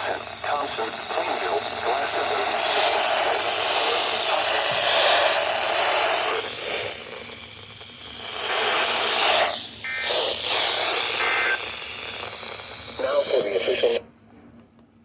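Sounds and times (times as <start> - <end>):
radio static hiss: 0.0 - 14.1.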